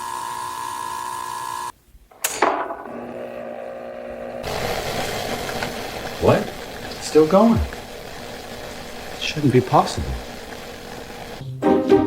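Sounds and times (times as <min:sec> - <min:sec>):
coffee machine humming: 0:00.0 - 0:11.4
coffee machine hissing: 0:00.0 - 0:11.5.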